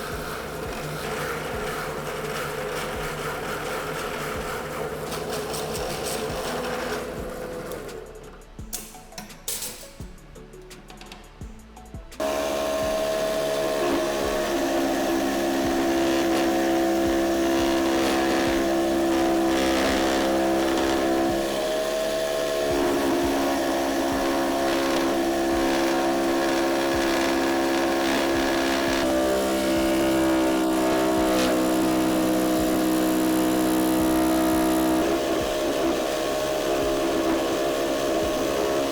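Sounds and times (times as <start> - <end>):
power tool motor whining: 0.0 - 8.3, 12.2 - 38.9.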